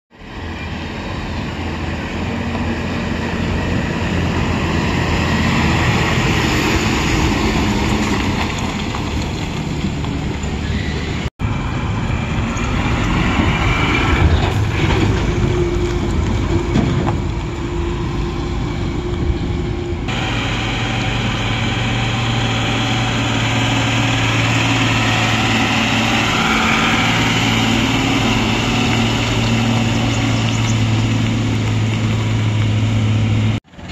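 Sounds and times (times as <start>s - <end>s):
truck engines under load: 0.1s - 33.9s
tyre and road noise: 0.1s - 33.9s.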